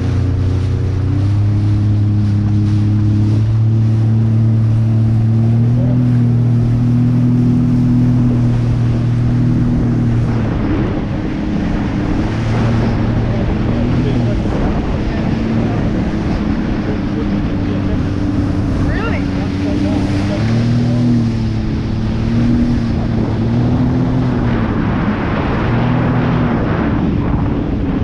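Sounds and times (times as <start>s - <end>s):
jet ski engine revving: 0.0s - 28.0s
water splashing: 0.0s - 28.0s
wind noise: 0.0s - 28.0s.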